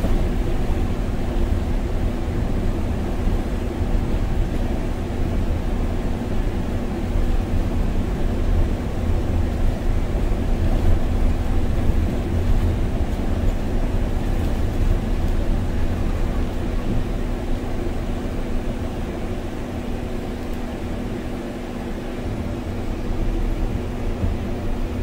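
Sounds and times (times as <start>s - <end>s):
bus engine rumble: 0.0s - 25.0s.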